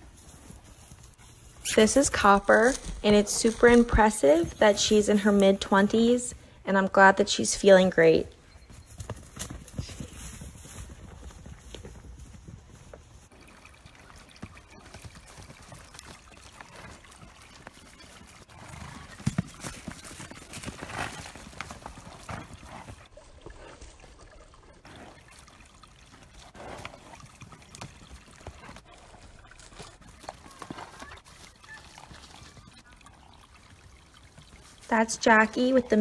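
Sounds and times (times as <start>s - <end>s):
hooves beating on turf: 0.0s - 32.8s.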